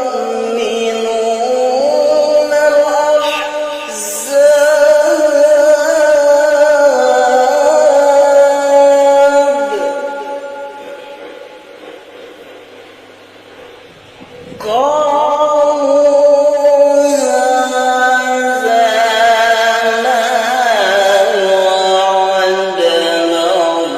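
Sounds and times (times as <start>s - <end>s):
man reciting melodically: 0.0s - 11.2s, 14.6s - 23.9s.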